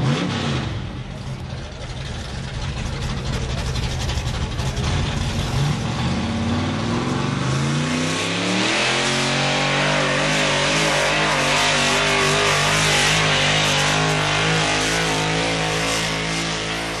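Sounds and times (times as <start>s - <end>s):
pulling engine at full throttle: 0.0s - 17.0s.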